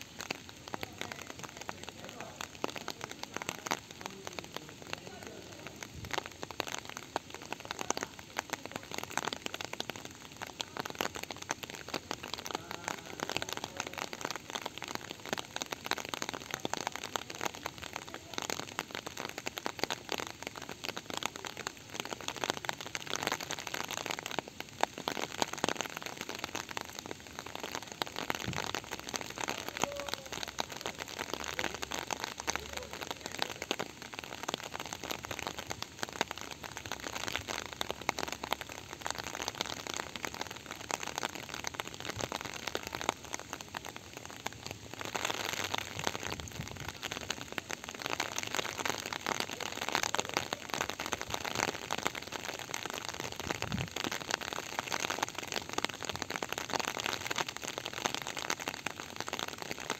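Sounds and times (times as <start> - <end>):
close raindrops pattering: 0.0 - 59.9
steady rain falling: 0.0 - 59.9.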